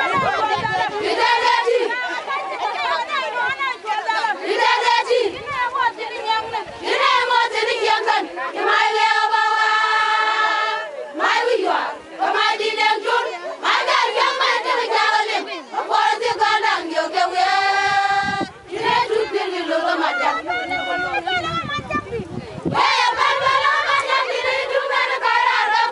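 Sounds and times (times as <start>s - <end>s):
women singing in unison: 0.0s - 21.5s, 22.7s - 25.9s.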